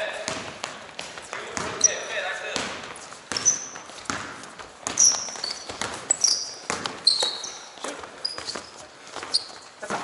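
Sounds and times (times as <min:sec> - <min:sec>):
basketball bouncing: 0:00.0 - 0:10.0
players' footfalls: 0:00.1 - 0:10.0
sneaker squeaks on floor: 0:01.2 - 0:10.0.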